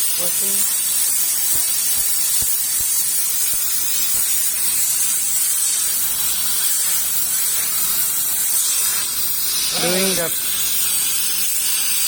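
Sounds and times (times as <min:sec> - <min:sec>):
gas hissing through pipe: 0:00.0 - 0:12.0.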